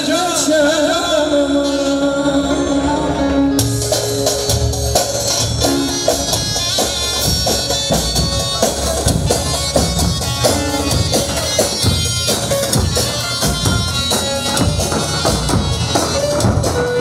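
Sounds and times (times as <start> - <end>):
shrill reedy wind melody: 1.2 - 17.0
pounding drum beat: 2.5 - 17.0.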